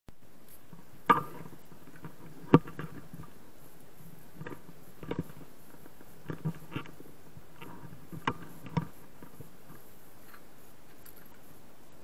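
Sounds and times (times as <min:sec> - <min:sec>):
low steady hiss: 0:00.1 - 0:12.0.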